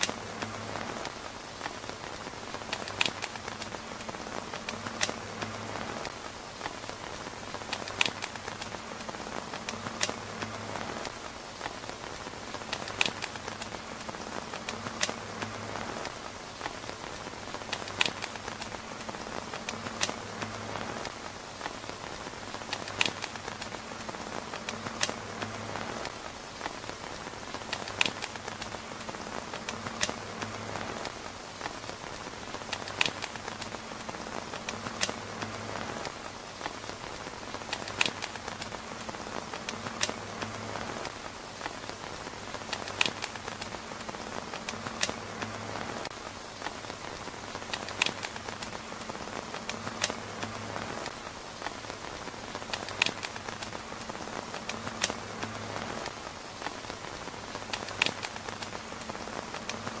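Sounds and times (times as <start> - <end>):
rain on a tent roof: 0.0 - 60.0.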